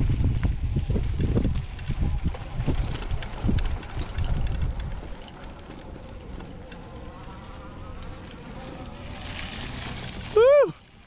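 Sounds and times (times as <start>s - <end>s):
electric bike motor whining: 0.0s - 11.0s
low rumble from trail: 0.0s - 11.0s.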